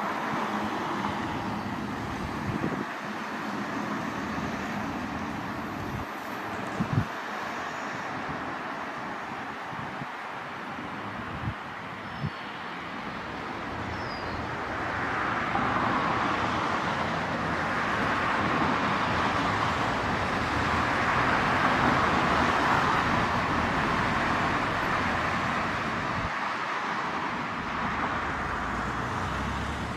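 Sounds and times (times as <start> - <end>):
road traffic hiss: 0.0 - 29.9.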